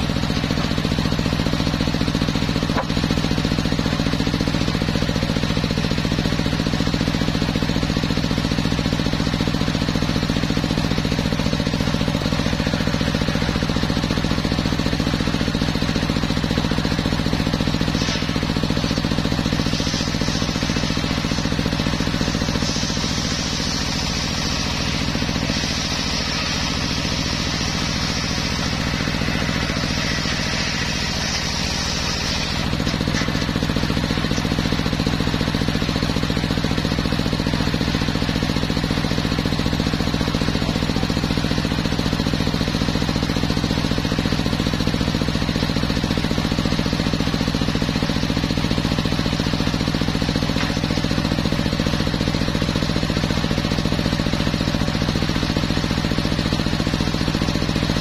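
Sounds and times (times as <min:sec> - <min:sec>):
circular saw sawmill running: 0:00.0 - 0:58.0.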